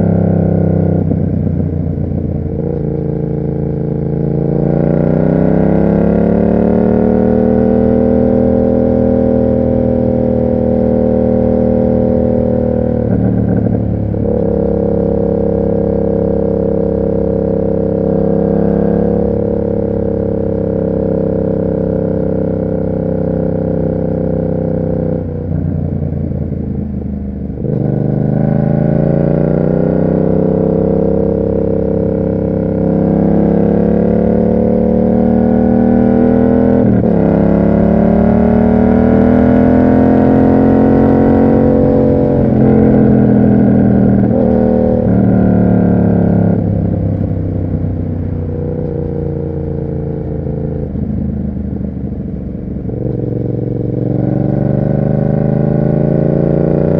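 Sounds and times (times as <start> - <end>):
motorcycle engine: 0.0 - 56.9.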